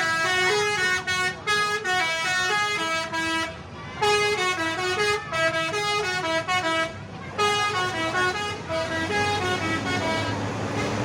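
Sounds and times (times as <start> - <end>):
musical bus air horn: 0.0 - 11.0.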